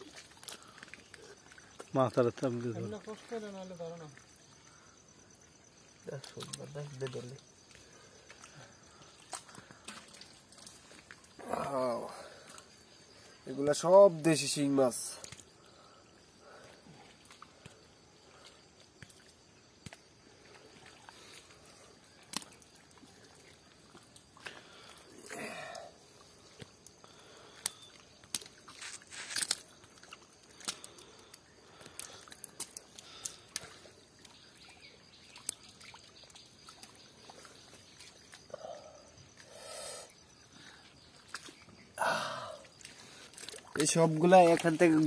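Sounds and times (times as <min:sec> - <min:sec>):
hands squelching through wet mud: 0:00.0 - 0:02.0, 0:06.1 - 0:13.3, 0:15.0 - 0:39.4, 0:40.2 - 0:45.0
small clicks and splats: 0:00.0 - 0:04.9, 0:06.0 - 0:13.4, 0:15.0 - 0:25.3, 0:26.0 - 0:39.5, 0:40.8 - 0:42.0, 0:42.6 - 0:45.0
water splashes: 0:00.0 - 0:04.9, 0:05.8 - 0:39.6, 0:40.3 - 0:45.0.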